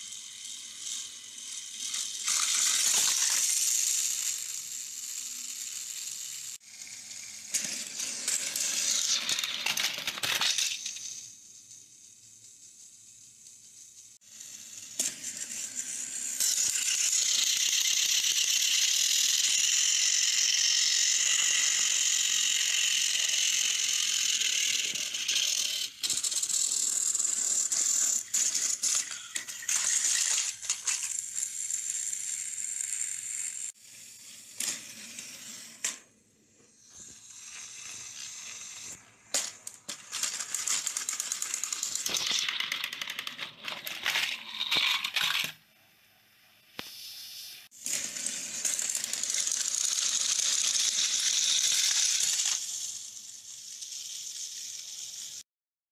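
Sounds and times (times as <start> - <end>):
toy train clicks: 0.0 - 36.1, 36.7 - 45.6, 47.7 - 55.4
toy trains rattling whirr: 0.0 - 55.5.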